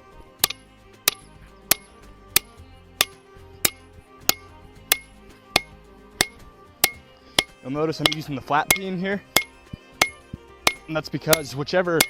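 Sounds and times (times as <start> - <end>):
hammer striking steel on anvil: 0.4 - 11.6.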